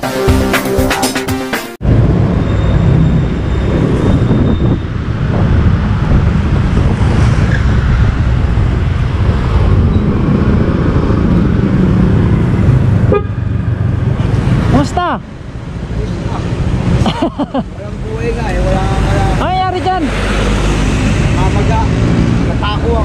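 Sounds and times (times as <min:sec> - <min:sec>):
traffic rumble: 0:01.8 - 0:23.0.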